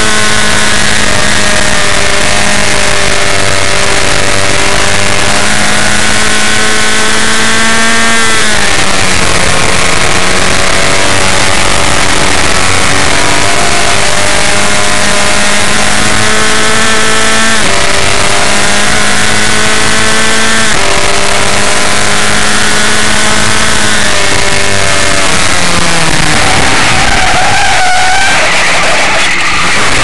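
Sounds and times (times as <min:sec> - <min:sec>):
race car engine accelerating: 0:00.0 - 0:30.0
wind and road noise: 0:00.0 - 0:30.0.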